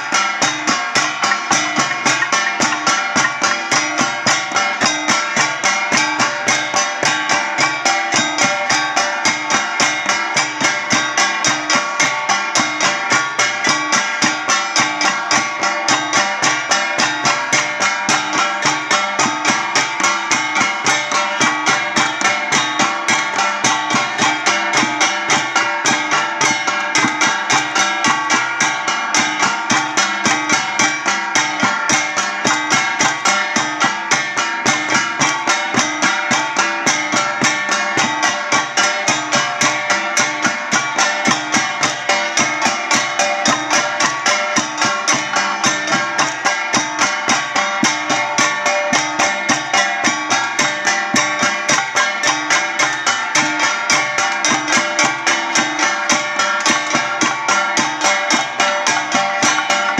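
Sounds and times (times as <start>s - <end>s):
flat gongs played in rhythm: 0.0s - 59.9s.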